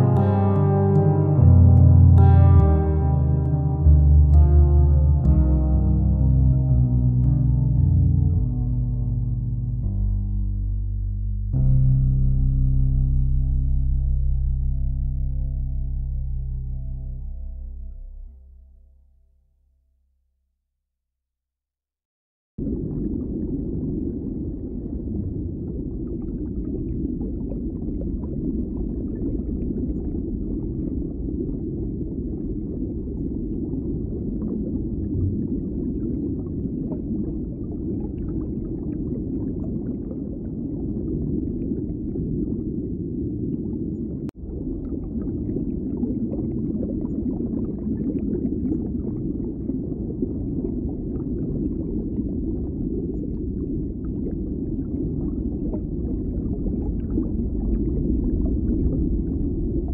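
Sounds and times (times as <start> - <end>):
low muffled rumbling: 0.0 - 19.2, 22.6 - 59.9.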